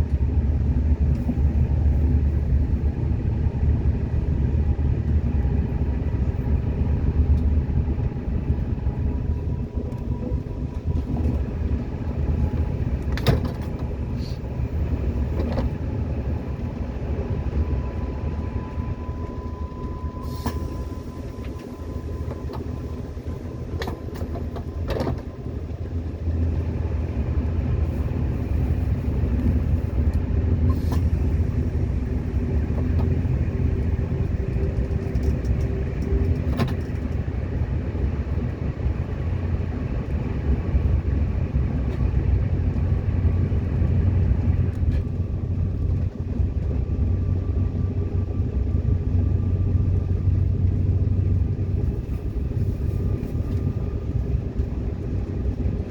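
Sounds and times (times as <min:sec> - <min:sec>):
metro train rumbling: 0:00.0 - 0:55.9.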